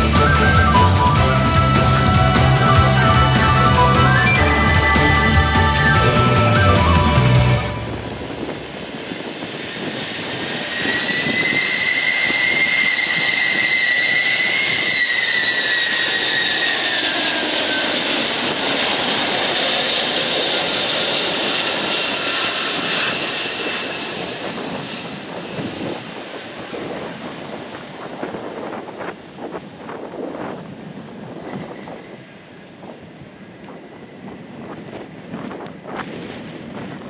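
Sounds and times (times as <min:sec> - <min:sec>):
high fan whine: 0:00.0 - 0:37.0
jet engines rushing: 0:00.0 - 0:37.0.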